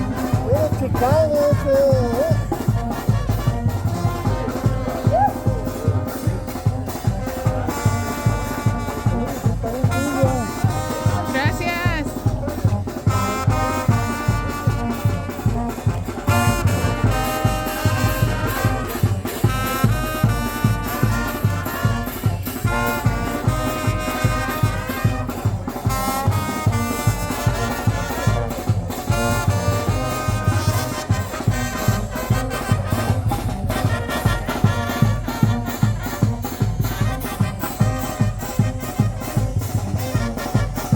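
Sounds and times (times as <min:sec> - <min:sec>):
brass band playing: 0:00.0 - 0:40.9
driving drum beat: 0:00.0 - 0:40.9
trombones and trumpets melody: 0:00.0 - 0:40.9.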